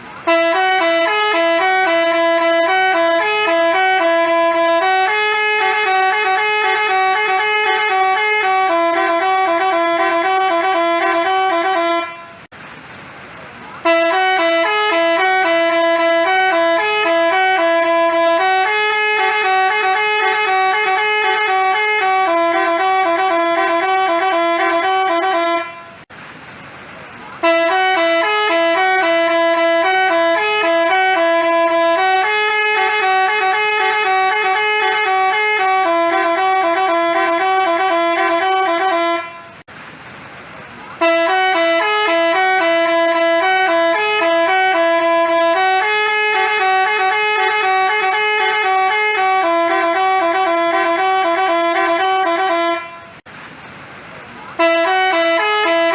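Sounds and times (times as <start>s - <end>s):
musical bus horn tune: 0.0s - 12.6s, 13.8s - 26.1s, 27.4s - 39.7s, 41.0s - 53.3s, 54.5s - 55.9s.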